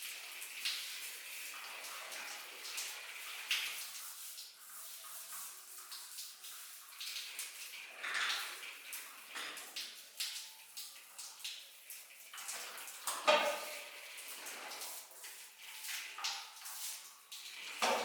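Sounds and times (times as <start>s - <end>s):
water running and splashing: 0.0s - 18.0s.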